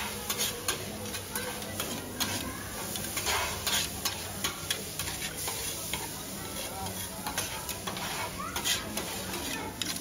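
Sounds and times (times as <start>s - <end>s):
metal spatula scraping on griddle: 0.0s - 10.0s
noodles sizzling: 0.0s - 10.0s.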